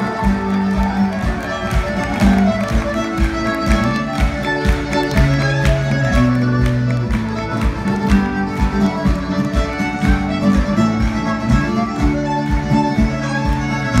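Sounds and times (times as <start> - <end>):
fiddle playing a dance tune: 0.0 - 14.0
guitar backing: 0.0 - 14.0.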